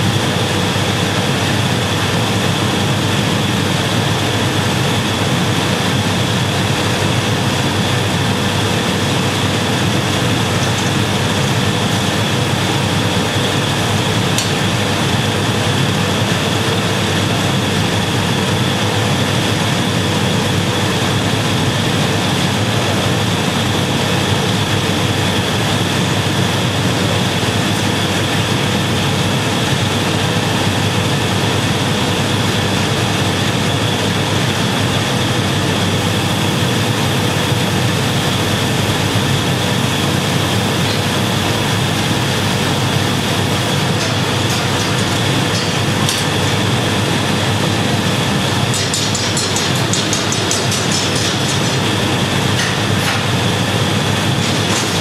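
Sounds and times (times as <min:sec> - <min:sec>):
furnace and blower roar: 0:00.0 - 0:55.0
steady high whine: 0:00.0 - 0:55.0.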